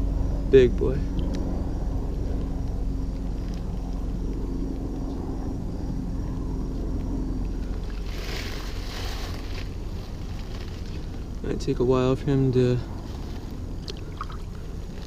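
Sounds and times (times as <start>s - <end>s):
faint steady hum: 0.0s - 15.0s
low engine drone: 0.0s - 15.0s.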